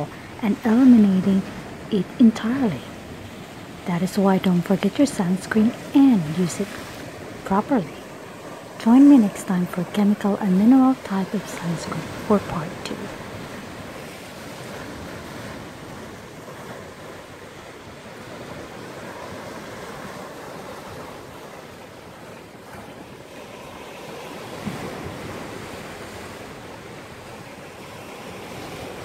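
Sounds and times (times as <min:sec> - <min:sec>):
ocean waves breaking on rocks: 0:00.0 - 0:29.0.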